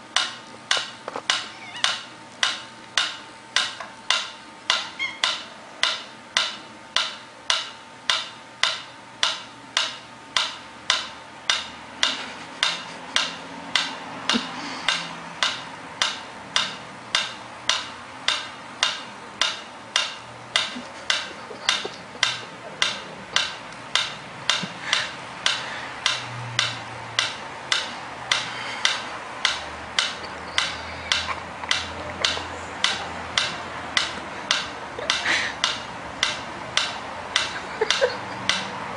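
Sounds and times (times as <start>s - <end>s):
metronome ticking: 0.0s - 38.9s.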